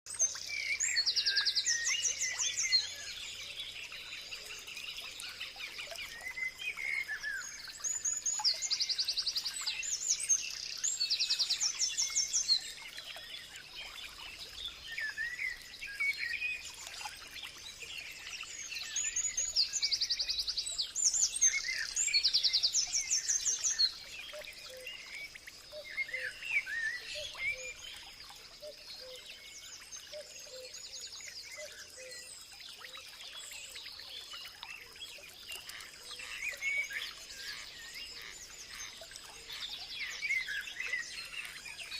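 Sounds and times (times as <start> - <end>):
birds singing and chirping: 0.1 - 41.9.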